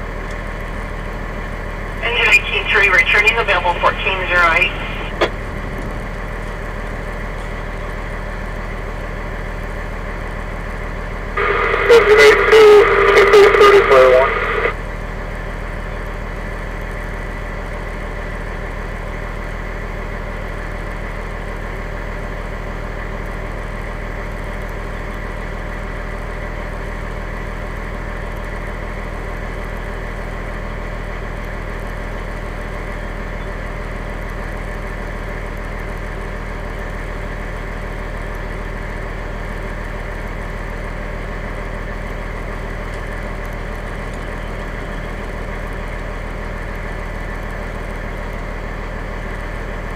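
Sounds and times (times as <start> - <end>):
fire engine motor humming: 0.0 - 49.9.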